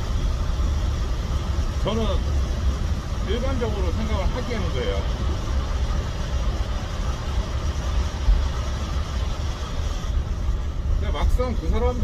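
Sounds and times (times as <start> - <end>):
road noise inside cabin: 0.0 - 12.0
vehicle engine rumble: 0.0 - 12.0.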